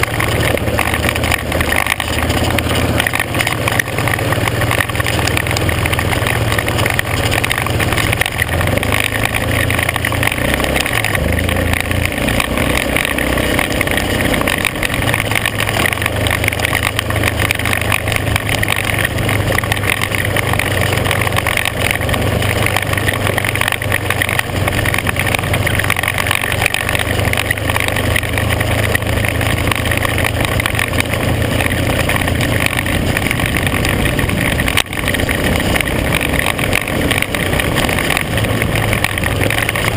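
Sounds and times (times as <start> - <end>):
off-road vehicle engine droning: 0.0 - 39.9
tyres rolling over gravel: 0.0 - 39.9.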